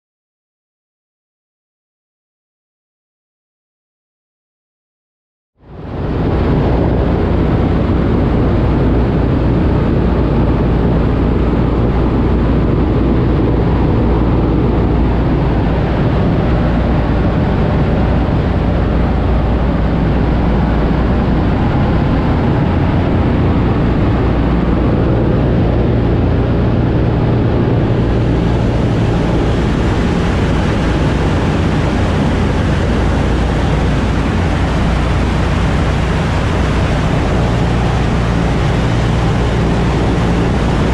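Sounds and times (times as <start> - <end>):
propeller engines droning: 5.6 - 40.9
rush of air: 5.6 - 40.9.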